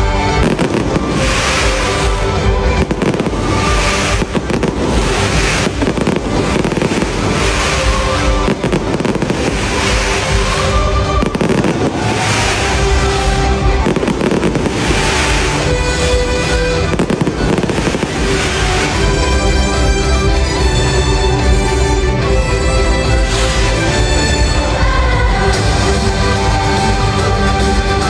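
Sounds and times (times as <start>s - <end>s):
fireworks bursting and crackling: 0.0s - 28.0s
loud show music: 0.0s - 28.0s.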